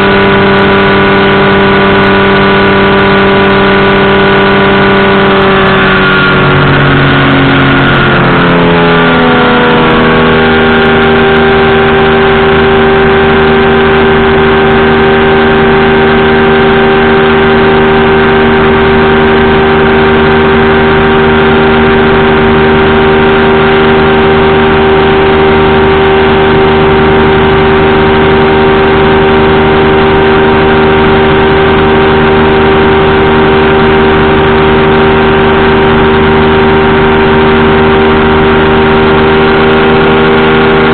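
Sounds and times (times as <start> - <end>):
engine and propeller running: 0.0 - 40.9.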